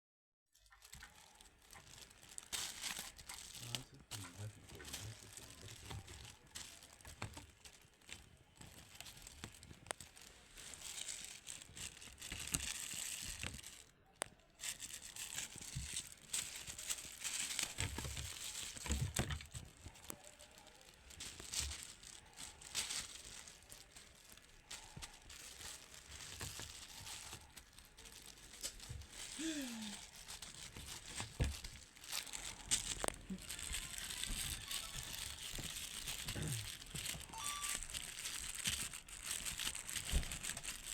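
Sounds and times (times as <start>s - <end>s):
crinkling and rustling: 0.5s - 40.9s.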